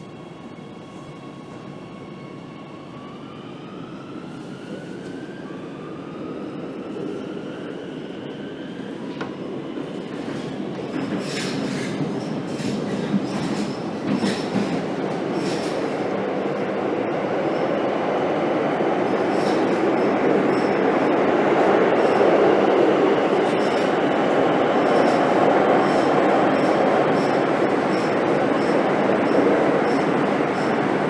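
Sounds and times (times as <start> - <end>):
train running on rails: 0.0 - 31.0.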